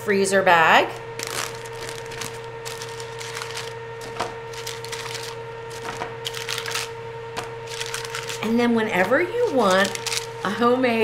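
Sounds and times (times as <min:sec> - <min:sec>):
steady hum: 0:00.0 - 0:11.0
plastic bag crinkling: 0:00.9 - 0:08.6, 0:09.4 - 0:10.5.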